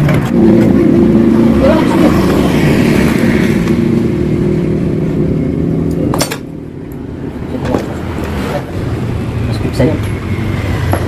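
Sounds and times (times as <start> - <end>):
motorcycle engine running loudly: 0.0 - 11.0.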